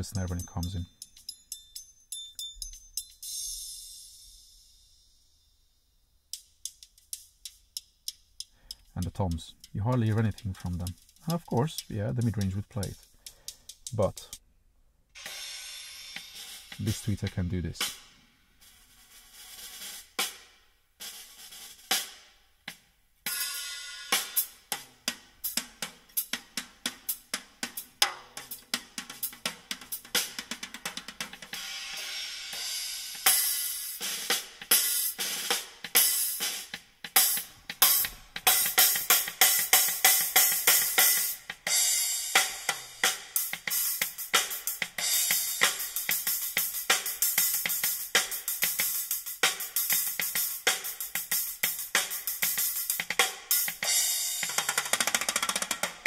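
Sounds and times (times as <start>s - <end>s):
drum-heavy song through car speakers: 6.4s - 14.4s, 15.2s - 20.4s, 21.0s - 56.0s.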